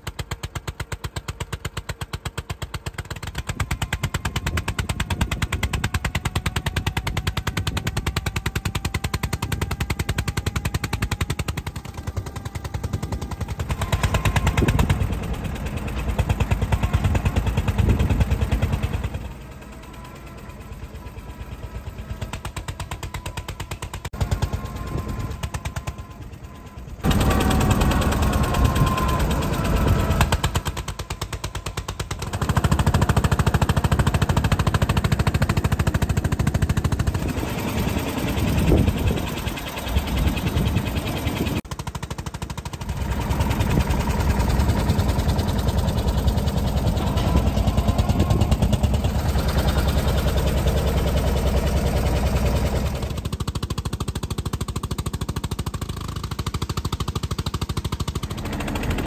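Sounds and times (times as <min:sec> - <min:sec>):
tractor engine chugging: 0:00.0 - 0:59.0.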